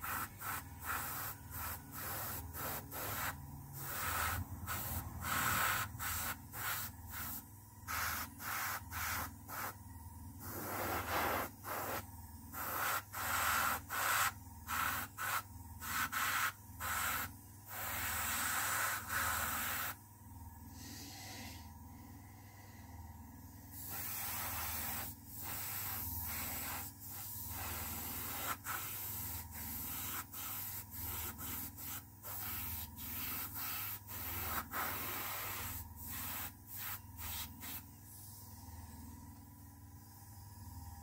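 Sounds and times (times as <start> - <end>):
airbrush spraying in hissing pulses: 0.0 - 9.8, 10.4 - 20.0, 23.7 - 38.2.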